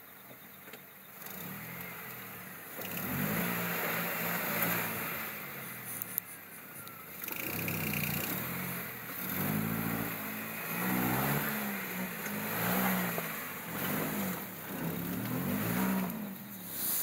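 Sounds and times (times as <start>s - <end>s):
engine revving under load: 1.0s - 17.0s
tyres churning mud: 2.8s - 17.0s.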